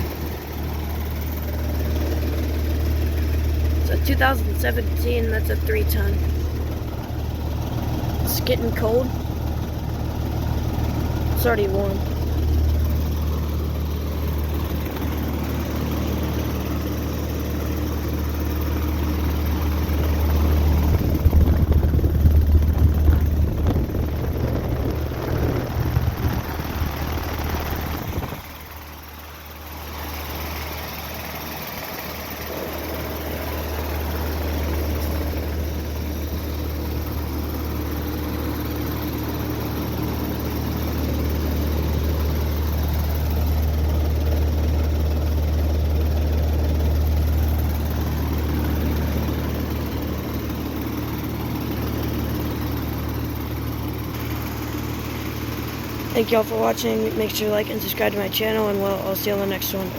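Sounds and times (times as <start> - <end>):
compressor humming: 0.0 - 59.9
fan whooshing: 0.0 - 59.9.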